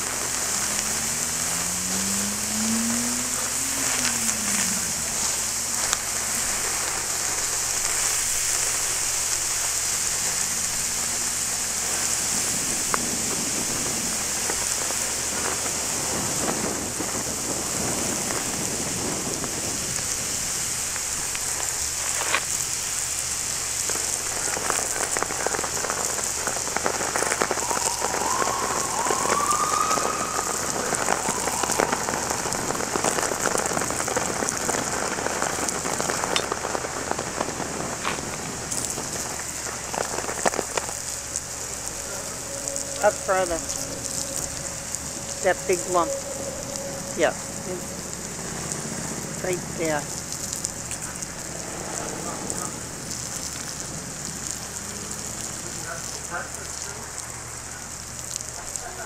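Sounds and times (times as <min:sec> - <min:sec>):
burning powder hissing and crackling: 0:00.0 - 0:59.0.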